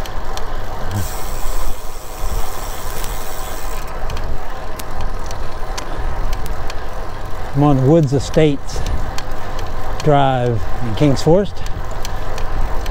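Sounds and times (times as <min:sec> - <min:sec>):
bicycle tyre noise: 0:00.0 - 0:12.9.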